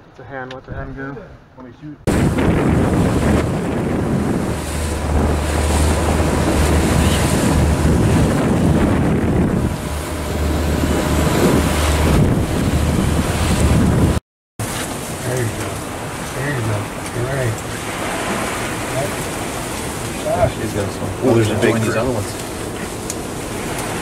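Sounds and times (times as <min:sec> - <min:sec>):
boat motor drone: 0:02.1 - 0:24.0
wind buffeting microphone: 0:02.1 - 0:24.0.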